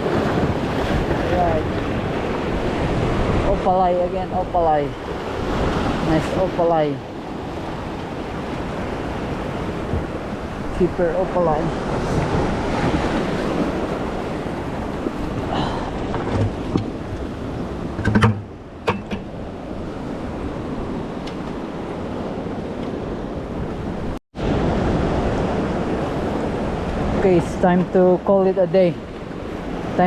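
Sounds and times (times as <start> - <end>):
ocean surf washing: 0.0 - 30.0
wind buffeting microphone: 0.0 - 30.0.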